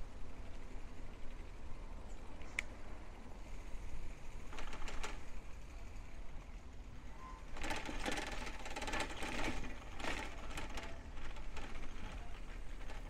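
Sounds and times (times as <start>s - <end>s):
bicycle freewheel ticking: 0.0s - 2.0s, 2.8s - 13.0s.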